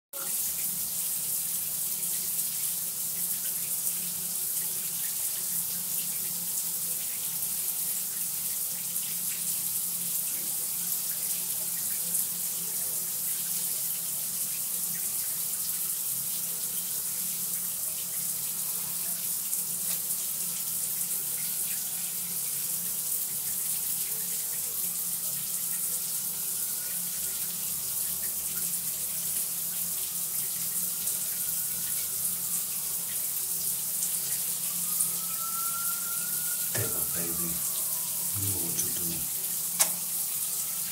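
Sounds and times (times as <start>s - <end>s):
water running: 0.2s - 40.9s.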